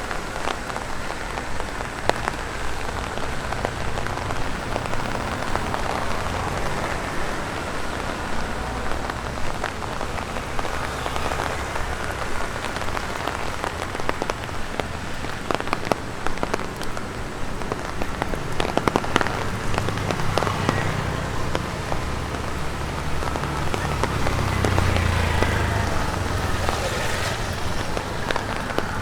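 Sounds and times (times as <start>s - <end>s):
rain pattering on an umbrella: 0.0s - 29.0s.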